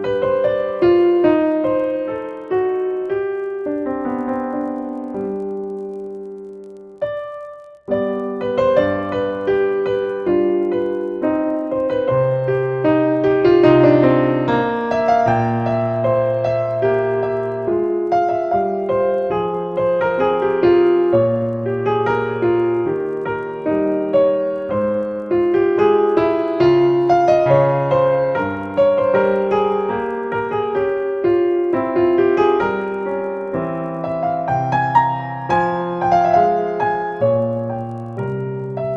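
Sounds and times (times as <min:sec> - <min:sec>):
slow piano melody: 0:00.0 - 0:38.9.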